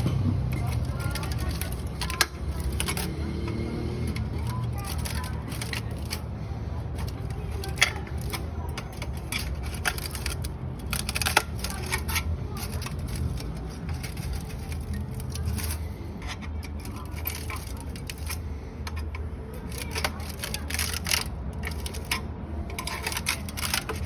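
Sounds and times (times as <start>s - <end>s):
ticking and rattling: 0.0s - 24.0s.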